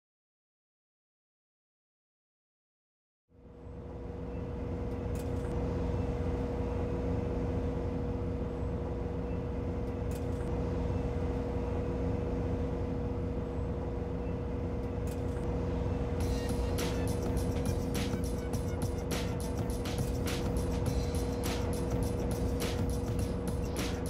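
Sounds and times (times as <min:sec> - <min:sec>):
machine hum: 0:03.3 - 0:24.0.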